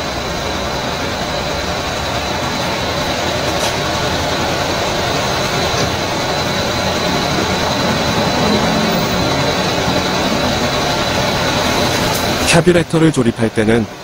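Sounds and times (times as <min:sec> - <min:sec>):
thin high whine: 0:00.0 - 0:14.0.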